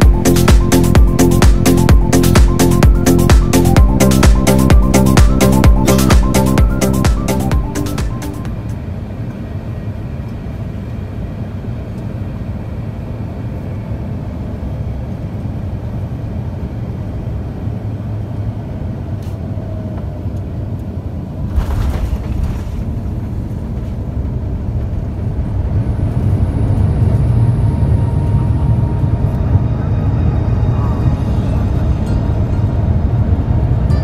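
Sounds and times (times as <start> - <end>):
aircraft cabin rumble: 0.0 - 34.0.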